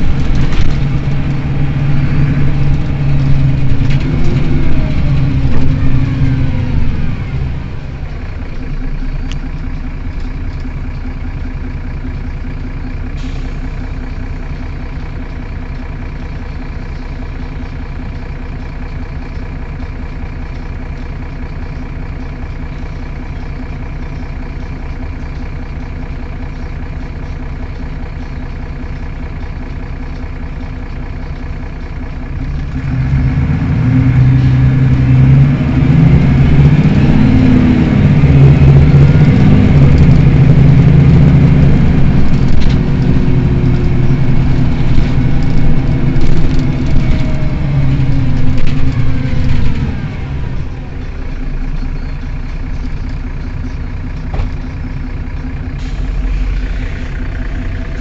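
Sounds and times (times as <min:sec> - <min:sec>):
bus engine idling: 0:00.0 - 0:58.0.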